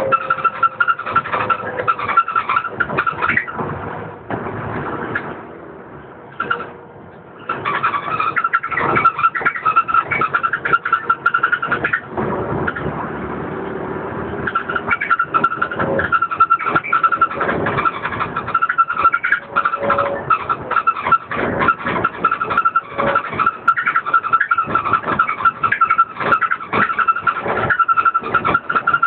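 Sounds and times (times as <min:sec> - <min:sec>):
bus engine running: 0:00.0 - 0:29.0
bus interior rattling: 0:00.0 - 0:29.0.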